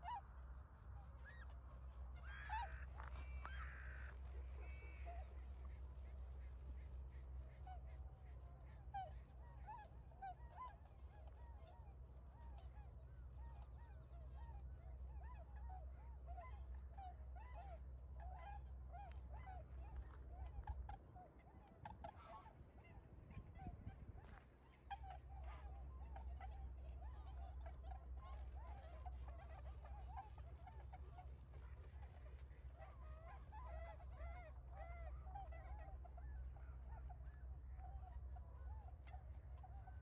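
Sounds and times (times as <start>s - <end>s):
steady low rumble: 0.0s - 40.0s
swans calling: 0.0s - 40.0s.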